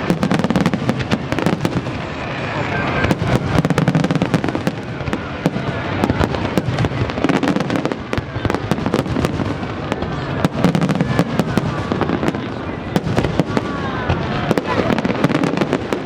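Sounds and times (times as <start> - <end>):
fireworks crackling pops: 0.0 - 16.0.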